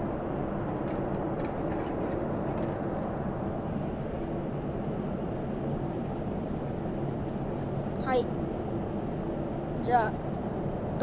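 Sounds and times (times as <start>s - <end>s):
jet cabin engine rumble: 0.0s - 11.0s.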